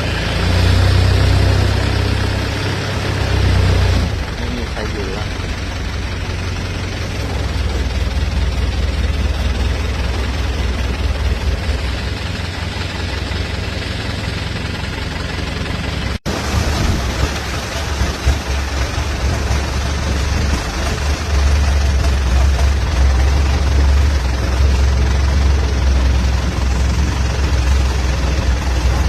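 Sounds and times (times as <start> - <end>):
motor boat engine drone: 0.0 - 29.0
rushing water noise: 0.0 - 29.0.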